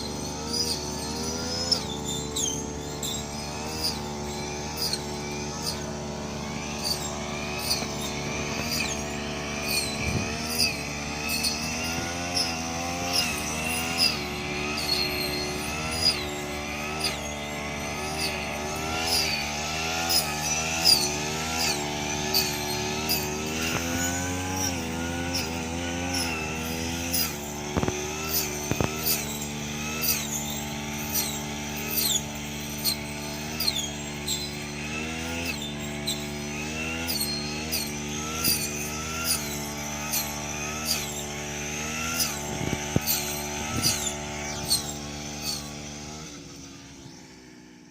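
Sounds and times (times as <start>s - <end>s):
brush cutter engine running: 0.0s - 47.9s.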